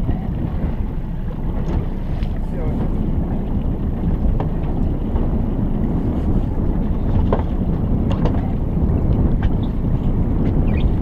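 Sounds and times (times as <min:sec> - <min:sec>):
small boat underway: 0:00.0 - 0:11.0
wind on microphone: 0:00.0 - 0:11.0.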